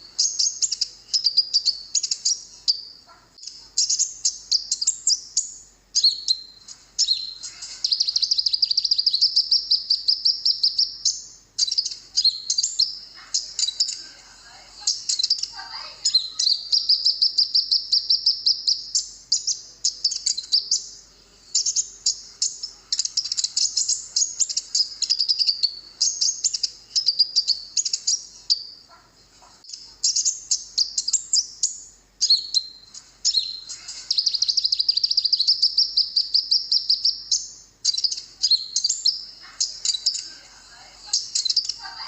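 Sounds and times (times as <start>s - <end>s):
bird twittering trills and chirps: 0.0s - 42.0s.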